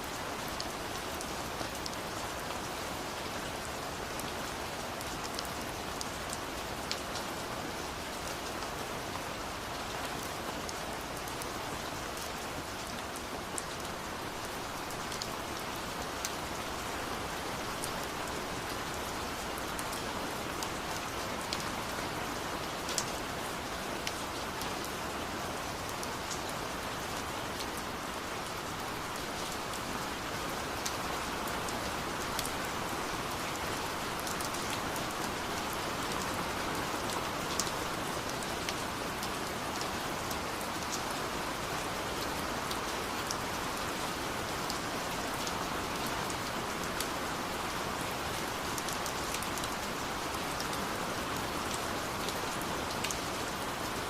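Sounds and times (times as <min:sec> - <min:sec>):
rain drops ticking: 0:00.0 - 0:54.0
steady rain hiss: 0:00.0 - 0:54.0.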